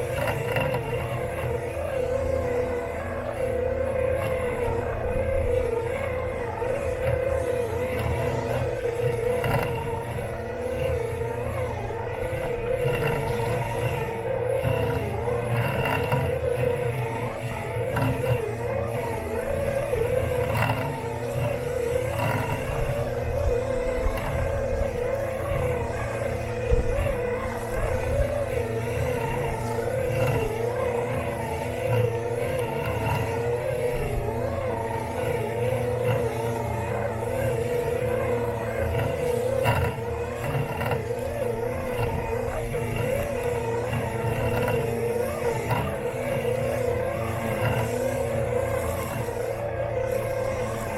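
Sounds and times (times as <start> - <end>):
electric motor whine: 0.0 - 50.9.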